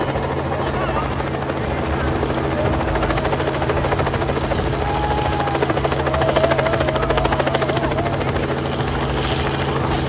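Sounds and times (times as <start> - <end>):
helicopter engine hum: 0.0 - 10.0
helicopter rotor blades chopping: 0.0 - 10.0.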